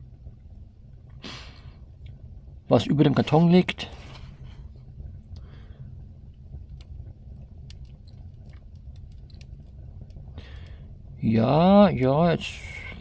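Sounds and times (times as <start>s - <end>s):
fire crackling and popping: 0.0s - 13.0s
low rumble of fire drawing air: 0.0s - 13.0s.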